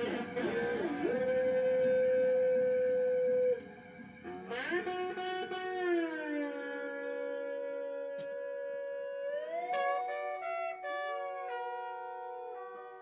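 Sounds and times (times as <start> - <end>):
electric guitar notes: 0.0 - 13.0.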